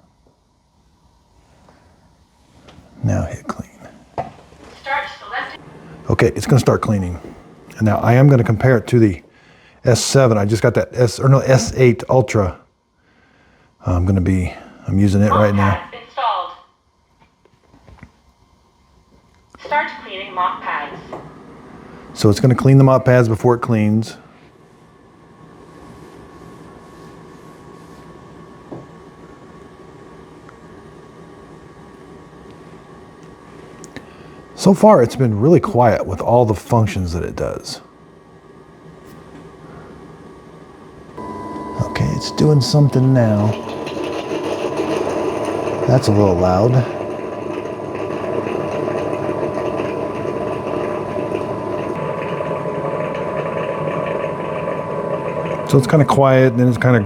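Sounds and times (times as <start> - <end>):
docking station humming: 0.0 - 16.5, 17.2 - 57.0
thin constant whine: 0.0 - 57.0.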